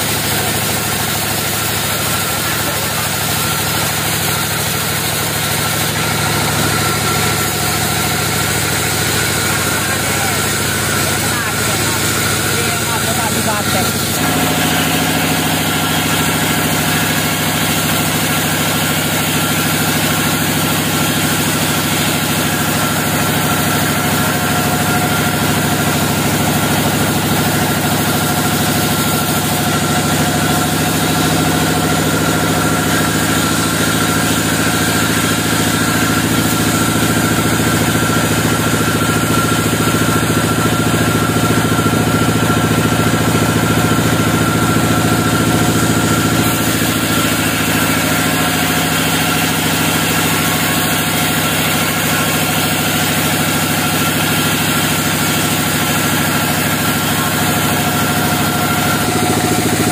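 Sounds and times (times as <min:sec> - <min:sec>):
sawmill machine hum: 0:00.0 - 0:59.9.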